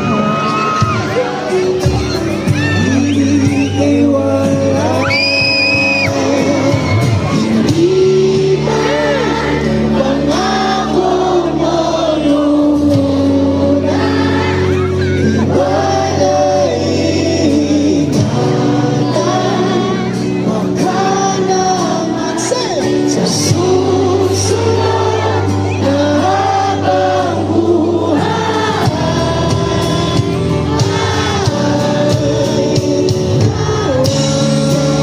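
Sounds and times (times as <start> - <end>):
live band playing through speakers: 0.0 - 35.0
several voices singing: 2.5 - 35.0.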